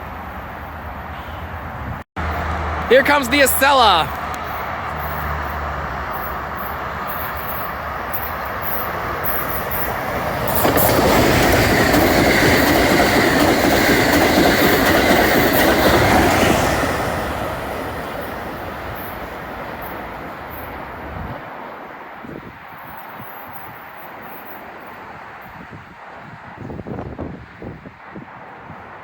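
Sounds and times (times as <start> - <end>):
train wheels rushing on rails: 2.2 - 26.6.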